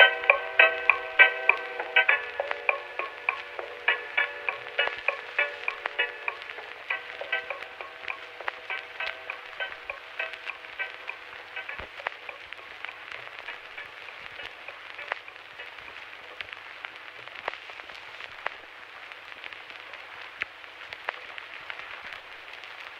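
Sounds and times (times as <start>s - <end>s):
crackling hiss: 0.0s - 22.9s
faint music: 0.0s - 22.9s.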